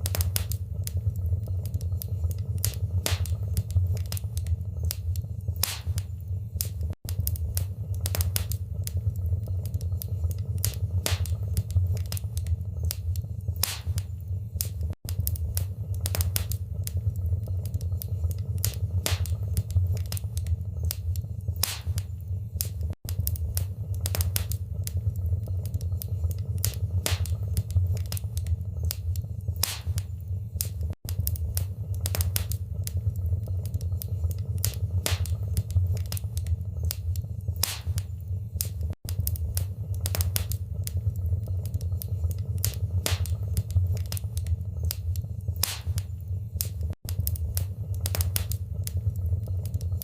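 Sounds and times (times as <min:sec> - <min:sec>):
low fire rumble: 0:00.0 - 0:50.0
wood fire crackling: 0:00.0 - 0:50.0.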